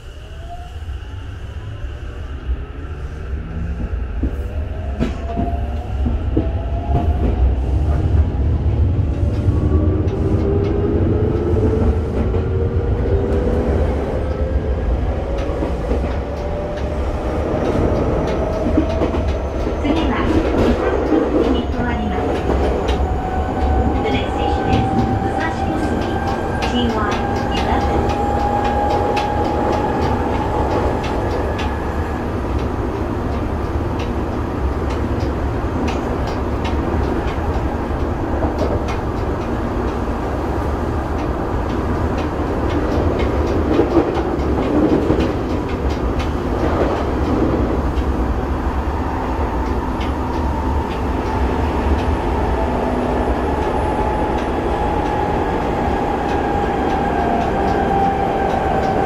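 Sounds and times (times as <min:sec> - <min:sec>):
train wheels rumbling on rails: 0:00.0 - 0:59.0
rail joint clicks: 0:03.6 - 0:59.0.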